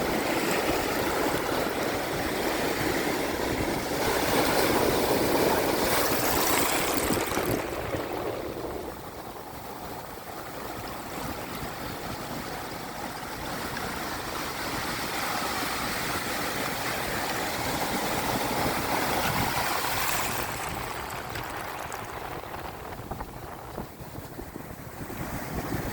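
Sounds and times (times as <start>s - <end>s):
ocean waves washing over shells: 0.0s - 25.6s.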